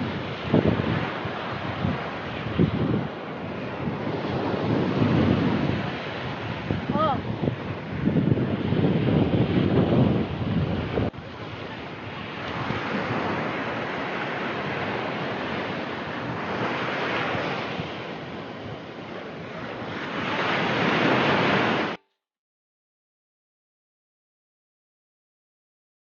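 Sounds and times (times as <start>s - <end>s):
sea waves washing onto beach: 0.0s - 22.0s
wind on microphone: 0.0s - 22.0s.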